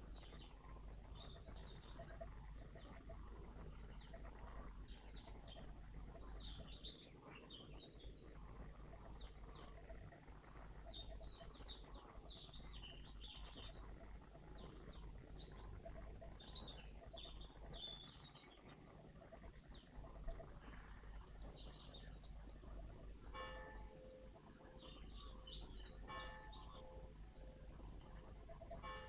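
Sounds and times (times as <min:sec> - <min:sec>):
small songbirds chirping: 0:00.0 - 0:28.9
low background rumble: 0:00.0 - 0:29.0.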